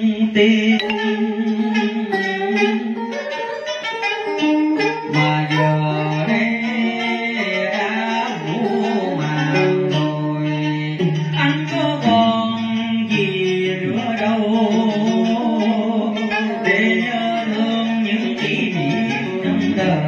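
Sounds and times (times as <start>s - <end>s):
person singing: 0.0s - 20.0s
plucked string accompaniment: 0.0s - 20.0s.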